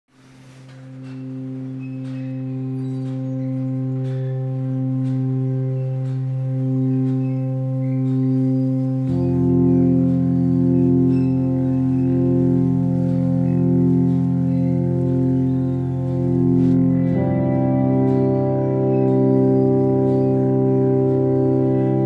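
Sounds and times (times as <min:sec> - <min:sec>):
sustained drone chord: 0:00.5 - 0:22.0
deeper chord: 0:00.6 - 0:22.0.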